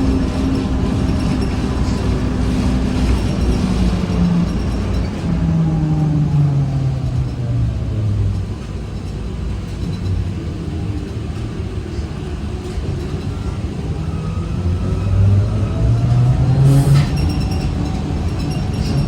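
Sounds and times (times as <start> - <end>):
trolleybus traction motor whining: 0.0 - 19.0.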